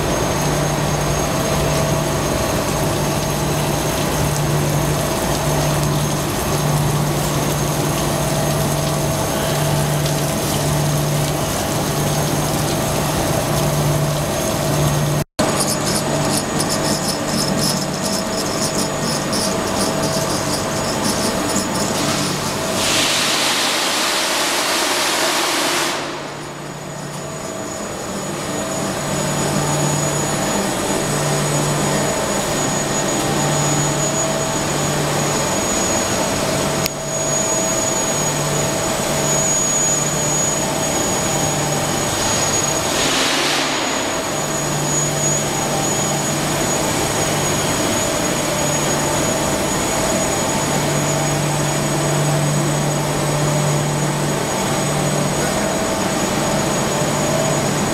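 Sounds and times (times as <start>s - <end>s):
machine drone: 0.0s - 57.9s.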